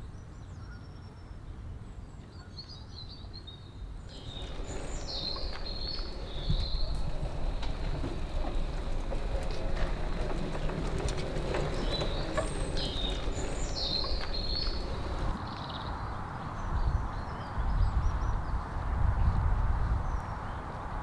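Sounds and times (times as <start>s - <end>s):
outdoor background noise: 0.0s - 21.0s
small birds chirping: 0.0s - 21.0s.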